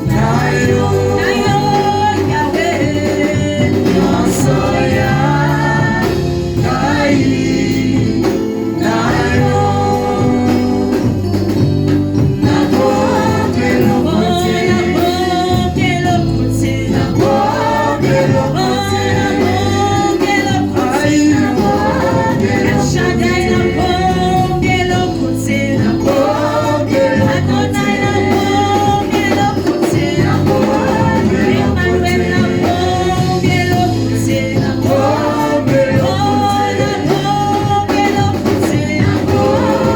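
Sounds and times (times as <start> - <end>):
gospel singing over a band: 0.0 - 39.9.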